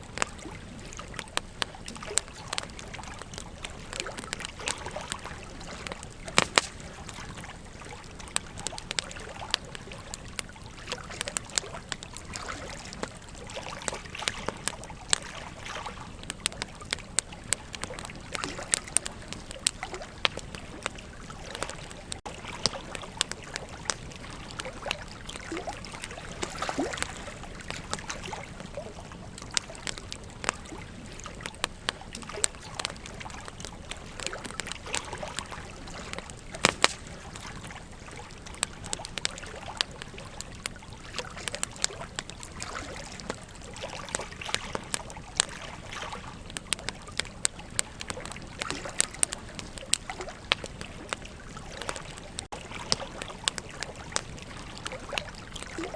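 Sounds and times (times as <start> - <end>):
campfire crackling and popping: 0.0 - 55.9
river trickling and gurgling: 0.0 - 55.9.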